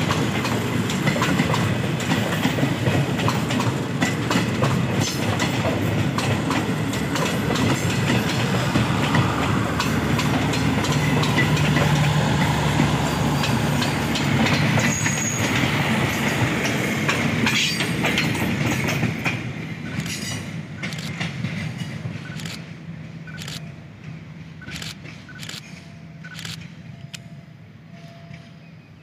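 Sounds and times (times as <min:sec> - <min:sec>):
wheels clicking over rail joints: 0:00.0 - 0:27.4
train wheels rumbling on rails: 0:00.0 - 0:29.0.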